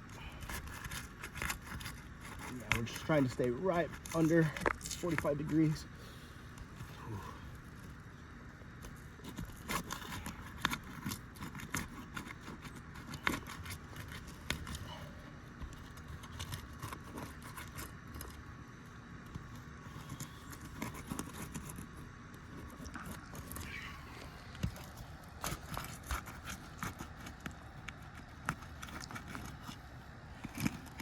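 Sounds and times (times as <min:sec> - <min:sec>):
shingles scraping and crackling: 0:00.0 - 0:31.0.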